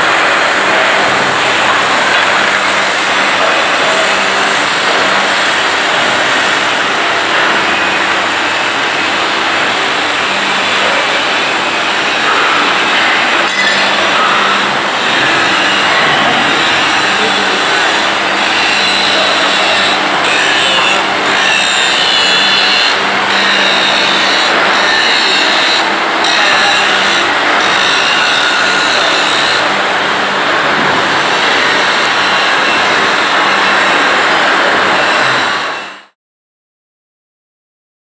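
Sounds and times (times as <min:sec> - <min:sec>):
machinery hum: 0:00.0 - 0:36.0
angle grinder grinding steel: 0:00.0 - 0:36.1.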